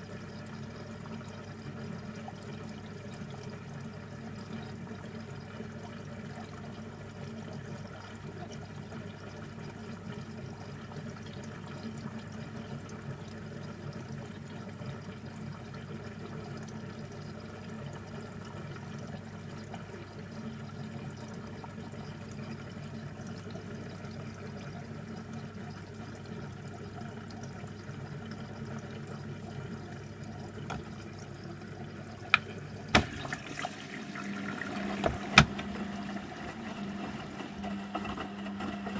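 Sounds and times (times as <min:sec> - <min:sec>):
water sloshing in washing machine: 0:00.0 - 0:38.9.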